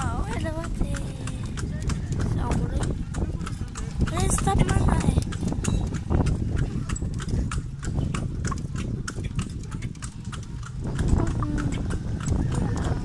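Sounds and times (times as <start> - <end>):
carriage low rumble: 0.0 - 13.0
hooves clip-clopping on concrete: 0.0 - 13.0.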